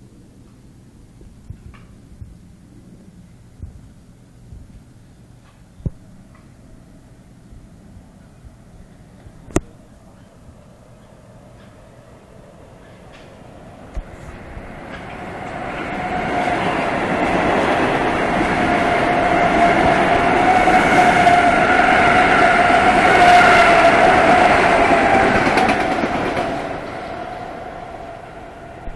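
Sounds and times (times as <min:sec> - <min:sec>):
train steady whine: 0:00.0 - 0:28.9
train wheel-on-rail noise: 0:00.0 - 0:28.9.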